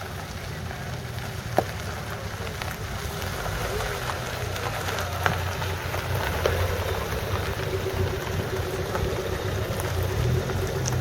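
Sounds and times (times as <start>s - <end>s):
light crackles: 0.0s - 11.0s
vehicle engine idling: 0.0s - 11.0s.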